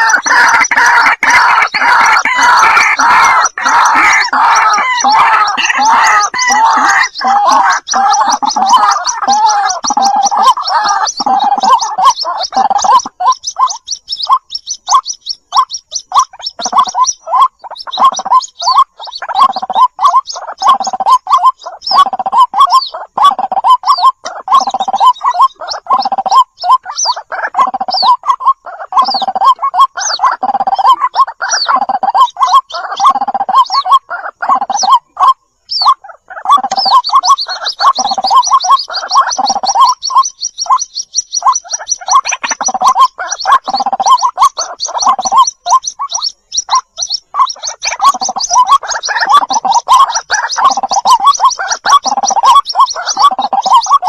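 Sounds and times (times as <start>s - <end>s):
bird chicks calling: 0.0s - 54.0s.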